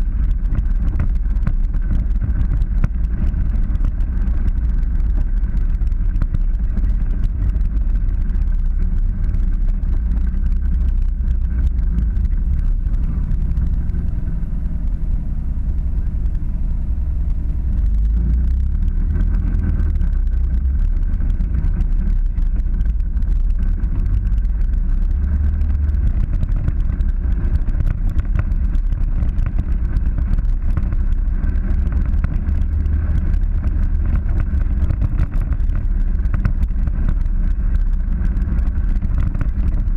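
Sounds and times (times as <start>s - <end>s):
vehicle engine low rumble: 0.0s - 39.9s.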